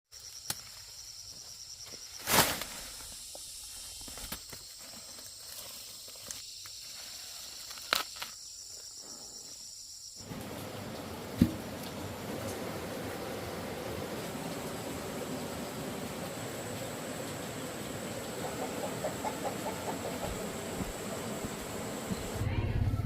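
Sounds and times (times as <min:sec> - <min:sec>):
insects chirring: 0:00.1 - 0:22.4.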